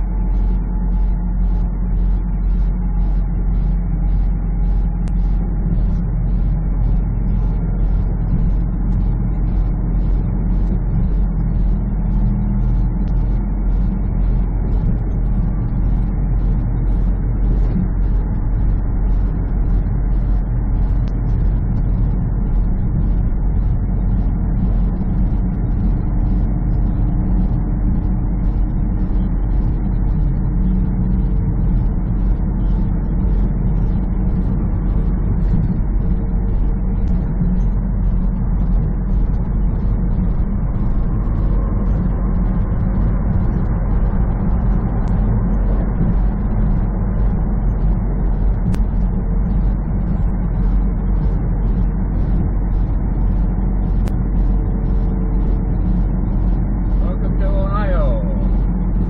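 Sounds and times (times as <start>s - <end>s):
truck engine and tyre drone: 0.0s - 59.0s.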